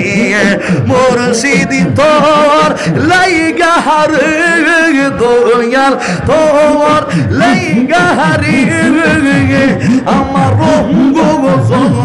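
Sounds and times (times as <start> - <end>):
man singing into a microphone: 0.0 - 12.0
rhythmic low vocal pulse: 0.0 - 12.0.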